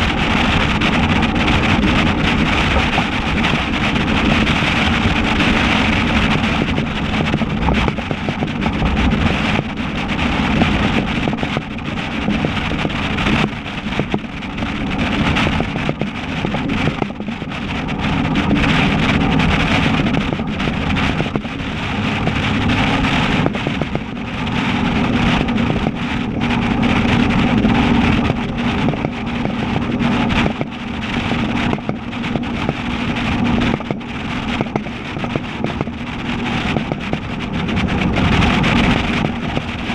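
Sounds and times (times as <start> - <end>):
engine exhaust drone: 0.0 - 39.9
wind buffeting microphone: 0.0 - 39.9.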